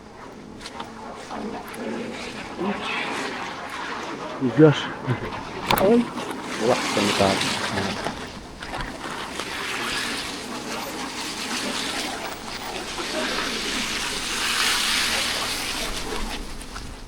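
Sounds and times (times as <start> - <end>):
rain falling: 1.2 - 17.0.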